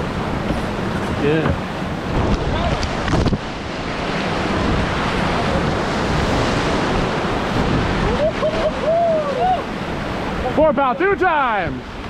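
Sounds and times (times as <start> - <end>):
river rapids rushing: 0.0 - 12.0
wind buffeting microphone: 0.0 - 12.0.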